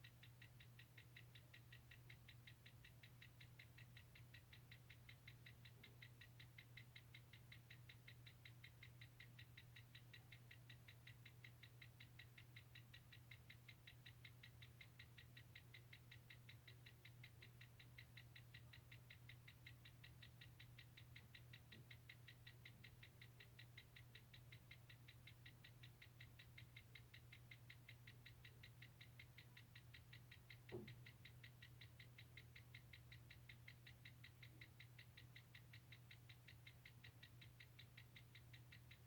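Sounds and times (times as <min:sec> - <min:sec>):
fast even ticking: 0:00.0 - 0:39.0.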